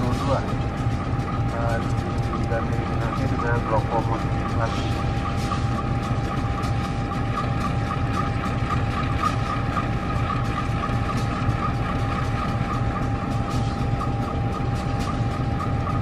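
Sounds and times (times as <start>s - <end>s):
constant whine: 0.0s - 16.0s
light mechanical ticking: 0.0s - 16.0s
locomotive engines idling: 0.0s - 16.0s.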